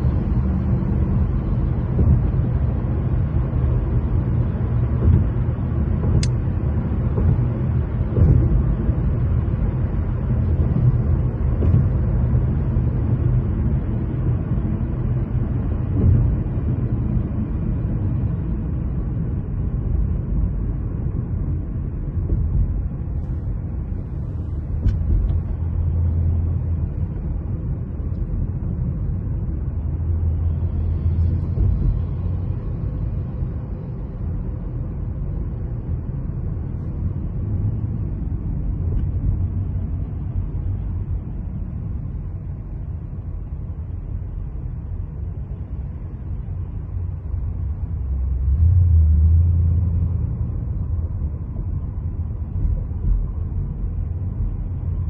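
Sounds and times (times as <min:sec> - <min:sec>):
car tyres and engine rumble: 0:00.0 - 0:55.0.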